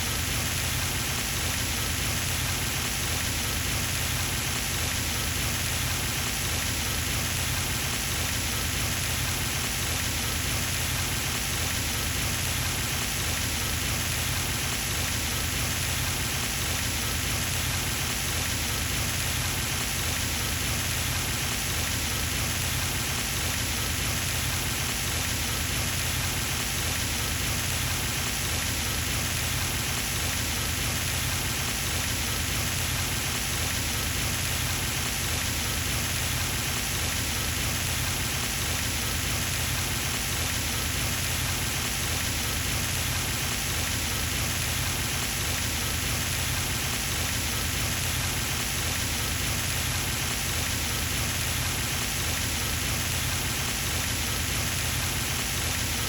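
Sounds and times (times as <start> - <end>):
fountain water splashing: 0.2 - 56.0.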